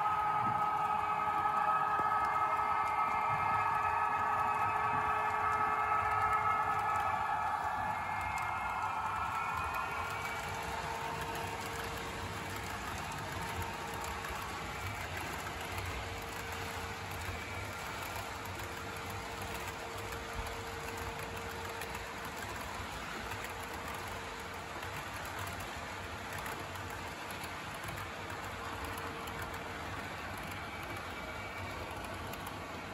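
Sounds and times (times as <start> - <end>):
model train wheels rattling on track: 0.0 - 32.9
thin steady whine: 0.0 - 32.9.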